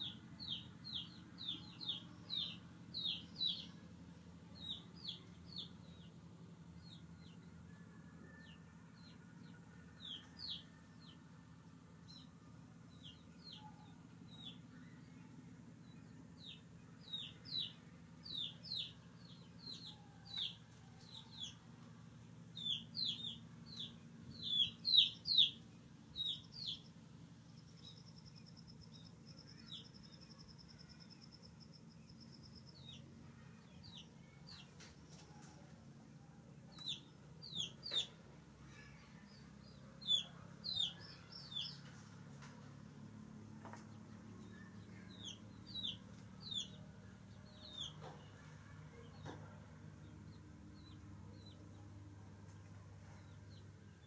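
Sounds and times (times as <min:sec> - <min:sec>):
birds chirping: 0:00.0 - 0:07.6, 0:12.0 - 0:54.0
faint low hum: 0:00.0 - 0:54.0.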